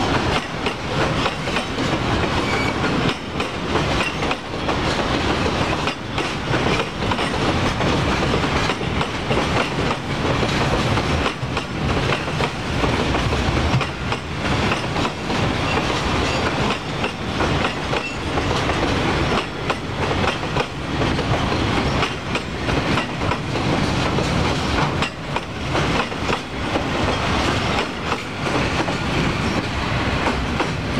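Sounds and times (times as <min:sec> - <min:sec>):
train wagons rumbling: 0:00.0 - 0:30.9
wheels clacking over rail joints: 0:00.0 - 0:30.9.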